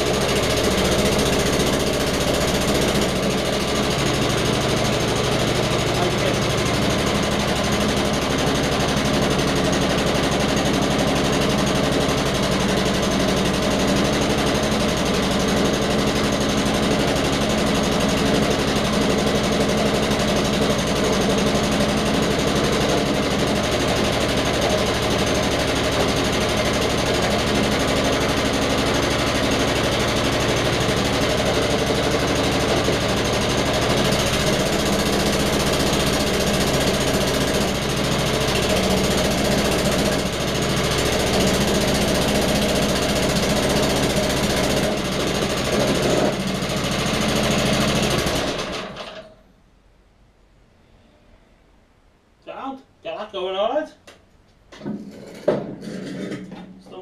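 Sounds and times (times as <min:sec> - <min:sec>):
lawnmower engine running: 0:00.0 - 0:49.5, 0:54.7 - 0:57.0.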